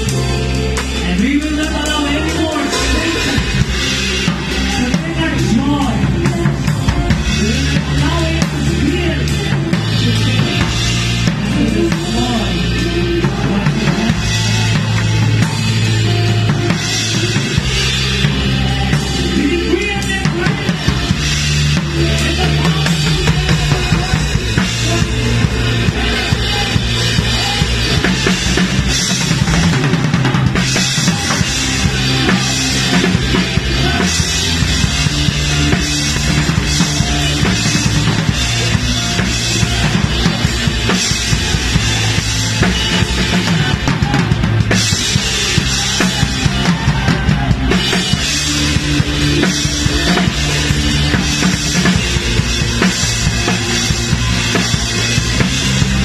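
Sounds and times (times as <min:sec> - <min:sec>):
drum kit rock beat: 0:00.0 - 0:56.0
sustained bass notes: 0:00.0 - 0:56.0.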